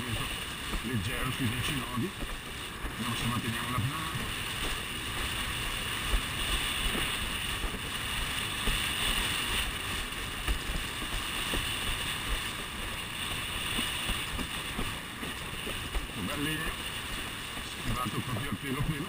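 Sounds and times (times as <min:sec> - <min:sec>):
rush of wind and water: 0:00.0 - 0:19.0
wind buffeting microphone: 0:00.0 - 0:19.0.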